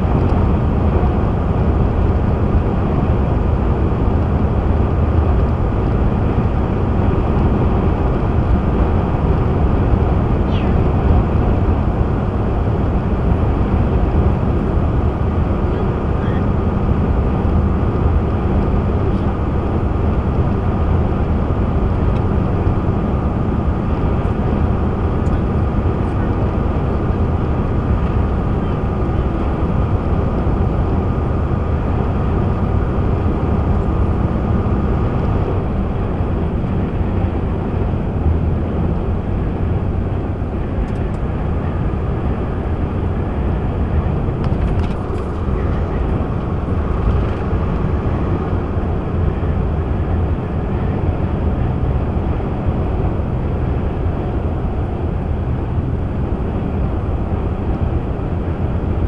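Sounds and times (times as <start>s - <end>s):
truck cab road drone: 0.0s - 59.0s.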